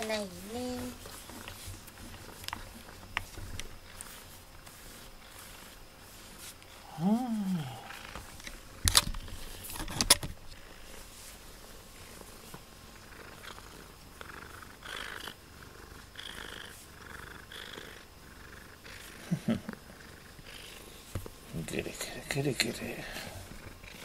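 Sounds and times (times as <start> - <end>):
cat purring: 0.0 - 9.6, 10.4 - 24.0.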